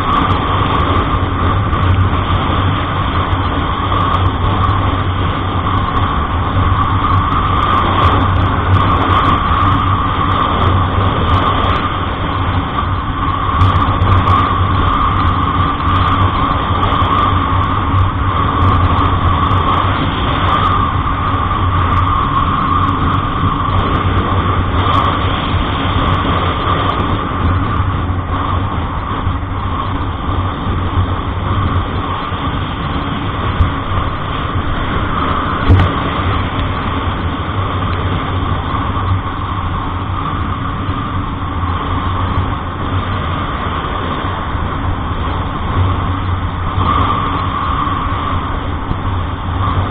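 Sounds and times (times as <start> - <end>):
road noise: 0.0 - 49.9
truck engine drone: 0.0 - 49.9.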